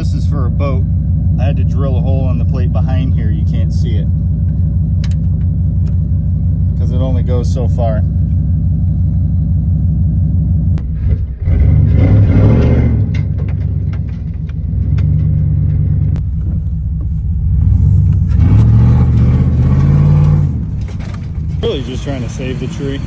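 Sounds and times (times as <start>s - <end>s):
pickup truck engine revving: 0.0s - 23.0s.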